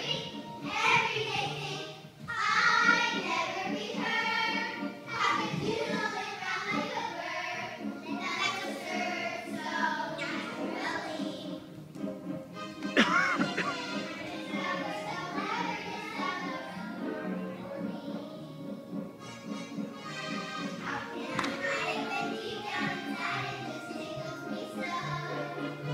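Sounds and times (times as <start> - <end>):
children singing in chorus: 0.0 - 11.6, 12.9 - 18.6, 20.4 - 25.9
musical accompaniment: 0.0 - 25.9.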